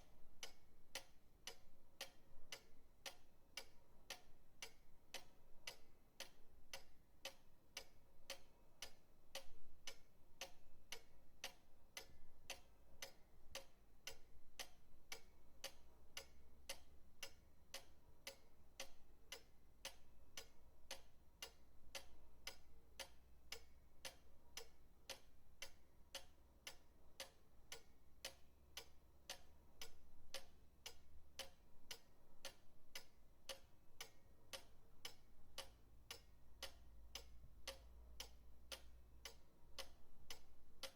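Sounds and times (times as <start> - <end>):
pendulum clock ticking: 0.0 - 40.9.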